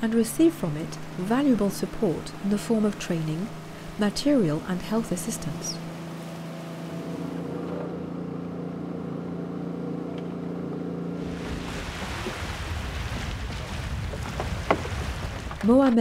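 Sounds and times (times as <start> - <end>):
wind and water rushing: 0.0 - 9.0, 11.0 - 16.0
outboard motor running: 0.0 - 16.0.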